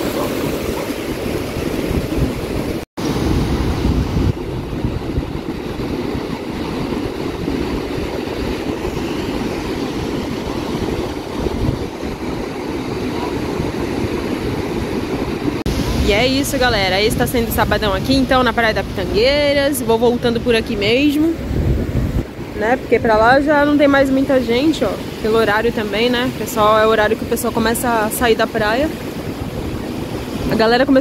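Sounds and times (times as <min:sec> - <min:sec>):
ocean surf: 0:00.0 - 0:31.0
wind buffeting microphone: 0:00.0 - 0:31.0.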